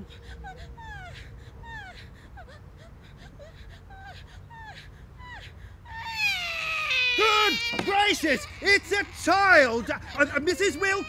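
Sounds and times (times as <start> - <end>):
newborn baby crying: 0.0 - 11.0.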